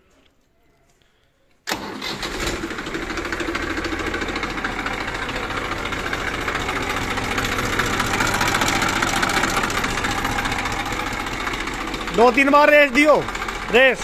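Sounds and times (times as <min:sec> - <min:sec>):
tractor diesel engine idling: 0:01.7 - 0:14.0.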